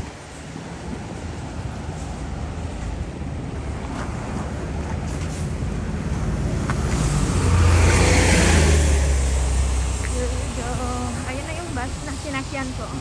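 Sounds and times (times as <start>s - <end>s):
bus engine running: 0.0s - 13.0s
road noise: 0.0s - 13.0s.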